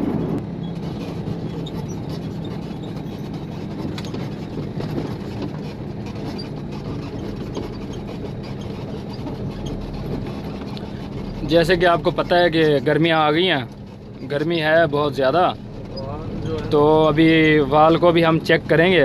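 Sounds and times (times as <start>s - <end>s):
diesel truck engine running: 0.0s - 19.0s
road noise: 0.0s - 19.0s.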